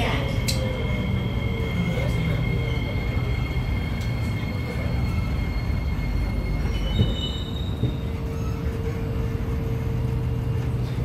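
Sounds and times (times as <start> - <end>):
high-pitched whines and squeals: 0.0 - 11.0
metro train rumble: 0.0 - 11.0.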